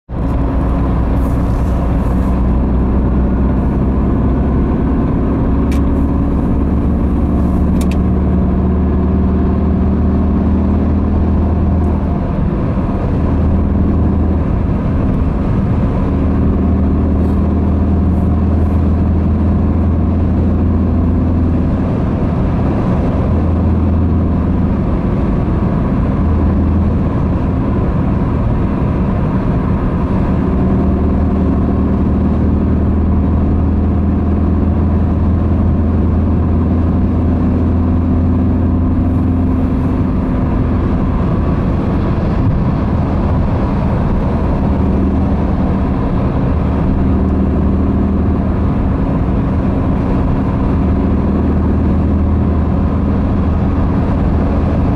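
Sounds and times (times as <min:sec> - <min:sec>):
car cabin road rumble: 0:00.1 - 0:54.9.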